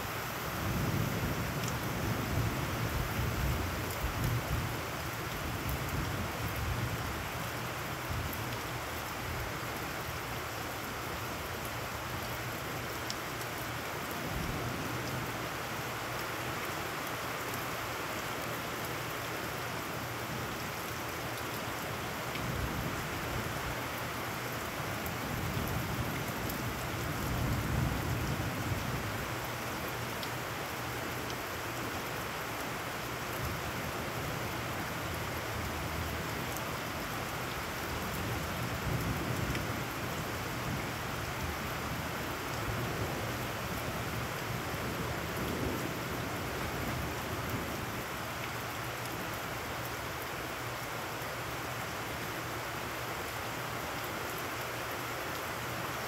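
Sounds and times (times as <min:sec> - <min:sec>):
heavy rain on puddles: 0:00.0 - 0:56.0.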